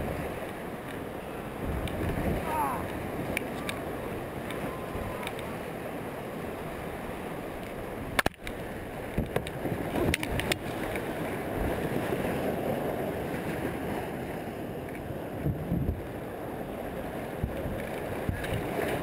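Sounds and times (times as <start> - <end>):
rushing whitewater: 0.0 - 19.0.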